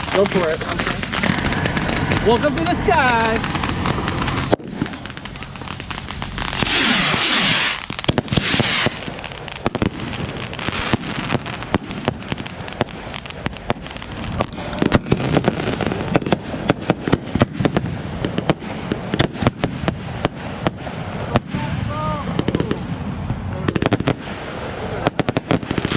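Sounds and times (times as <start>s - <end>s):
fireworks hissing burst: 0.0s - 25.9s
fireworks popping and crackling: 0.0s - 25.9s.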